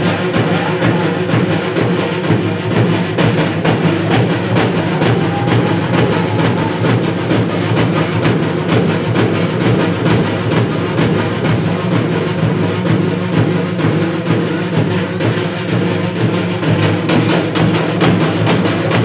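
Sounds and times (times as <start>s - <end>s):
fast folk drumming: 0.0s - 19.0s.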